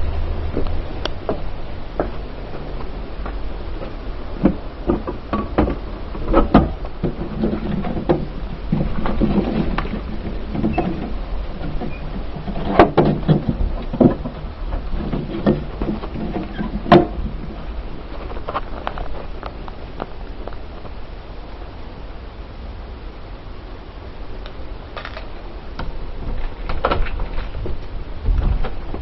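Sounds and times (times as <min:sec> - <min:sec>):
car interior rumble: 0:00.0 - 0:29.0
knocks and rattles: 0:00.6 - 0:20.1, 0:25.0 - 0:29.0.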